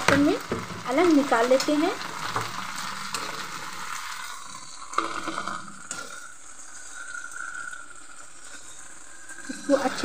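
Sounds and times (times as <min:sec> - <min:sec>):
okra sizzling in hot oil: 0:00.0 - 0:10.0.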